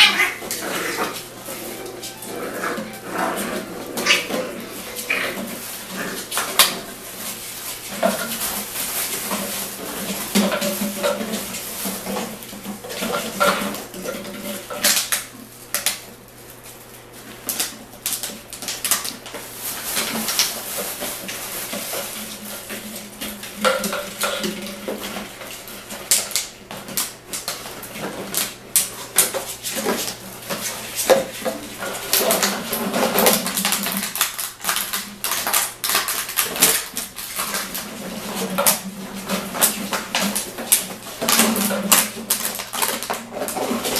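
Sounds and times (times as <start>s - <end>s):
plastic bottles clattering: 0.0s - 15.3s, 17.6s - 43.9s.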